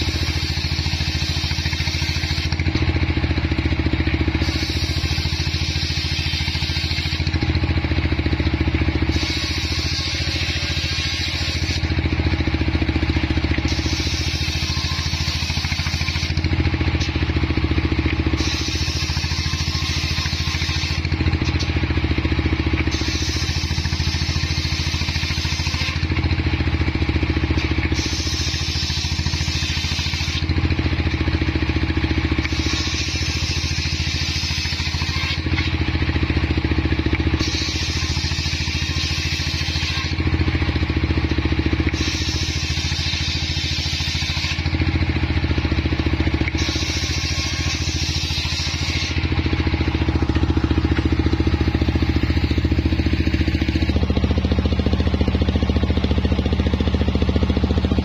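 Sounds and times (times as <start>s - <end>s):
circular saw cutting wood: 0.0s - 58.0s
engine humming: 0.0s - 58.0s.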